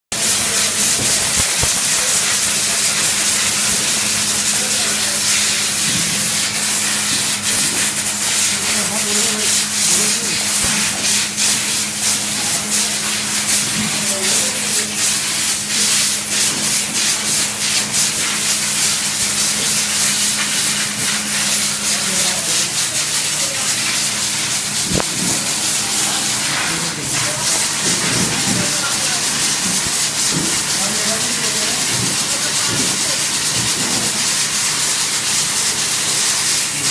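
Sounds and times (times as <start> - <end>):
loud hissing machine noise: 0.1 - 36.9.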